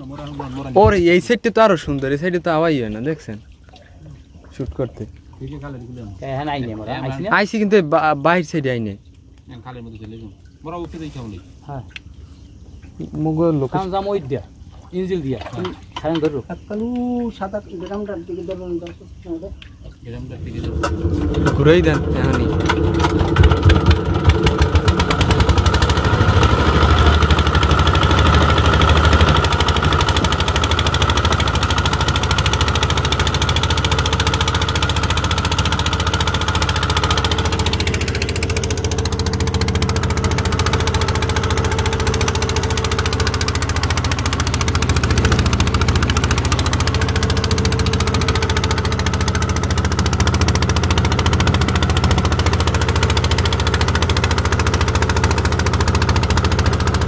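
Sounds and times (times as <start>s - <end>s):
boat engine running: 0.0s - 8.5s, 9.7s - 57.0s.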